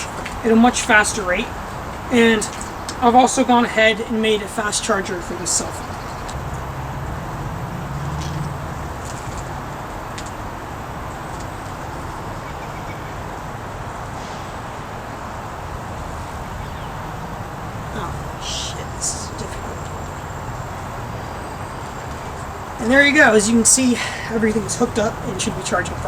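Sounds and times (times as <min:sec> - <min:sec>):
hiss-like background noise: 0:00.0 - 0:26.0.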